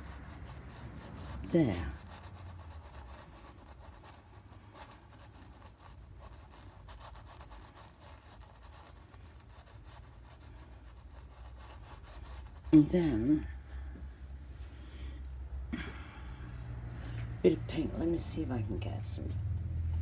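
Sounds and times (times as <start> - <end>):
paintbrush scratching on canvas: 0.0 - 13.7, 16.4 - 18.9
low room hum: 0.0 - 20.0.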